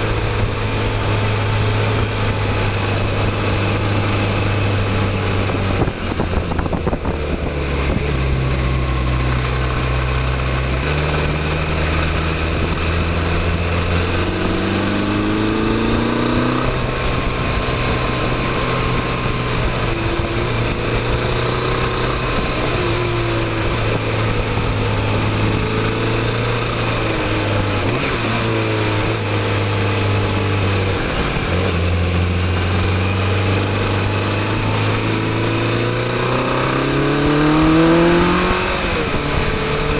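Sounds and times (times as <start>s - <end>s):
motorcycle engine revving: 0.0s - 39.9s
wind on microphone: 2.0s - 39.9s.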